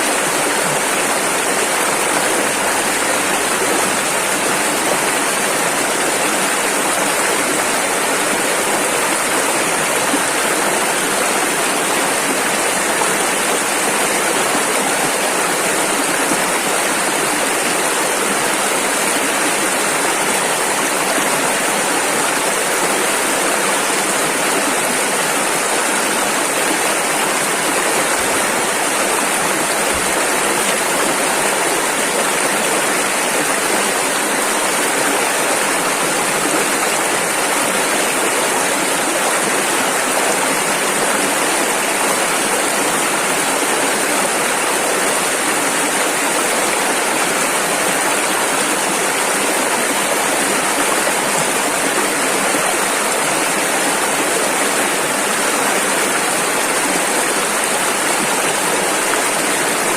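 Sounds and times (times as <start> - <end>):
rushing river rapids: 0.0 - 59.9.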